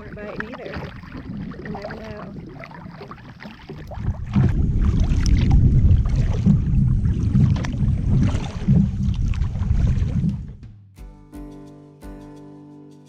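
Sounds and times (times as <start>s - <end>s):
water rumbling against kayak hull: 0.0s - 10.7s.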